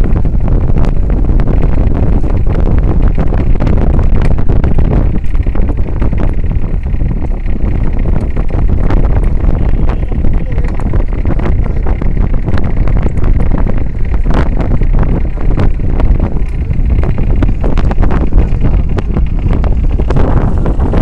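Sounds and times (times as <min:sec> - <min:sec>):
boat running noise: 0:00.0 - 0:21.0
wind buffeting microphone: 0:00.0 - 0:21.0.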